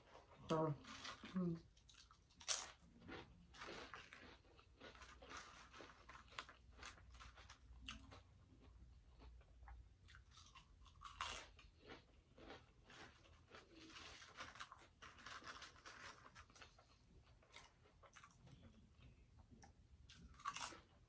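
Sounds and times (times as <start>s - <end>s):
potato chips crunching: 0.8s - 18.5s, 20.1s - 21.0s.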